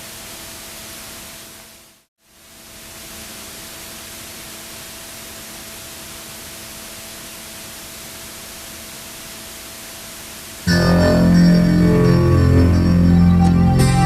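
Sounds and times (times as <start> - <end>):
faint steady hum: 0.0 - 14.0
steady hiss: 0.0 - 14.0.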